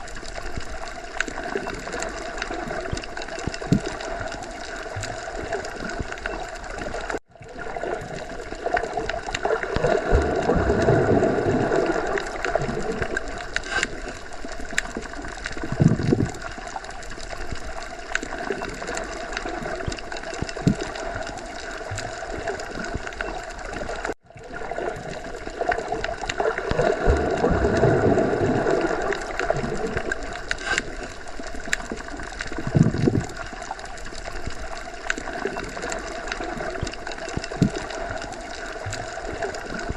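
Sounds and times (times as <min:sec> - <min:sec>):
underwater rush of water: 0:00.0 - 0:39.9.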